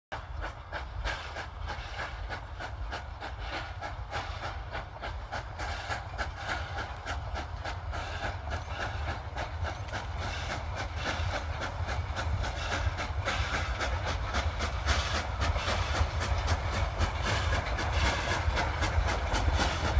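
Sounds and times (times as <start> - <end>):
steam locomotive chuffing: 0.1 - 19.9.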